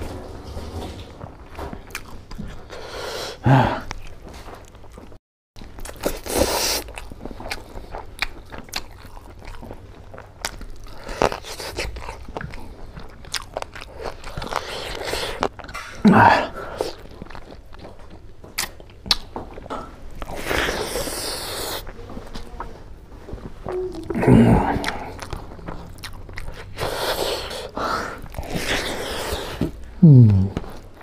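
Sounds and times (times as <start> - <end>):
person chewing food: 1.3 - 31.0.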